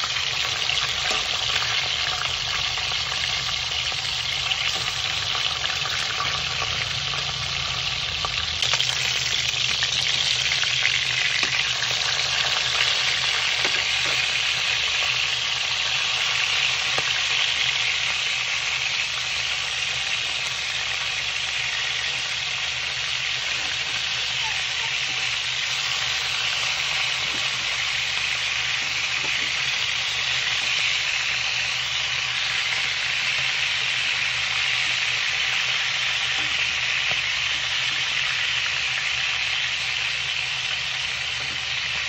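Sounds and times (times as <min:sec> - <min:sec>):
chicken sizzling in oil: 0:00.0 - 0:42.0.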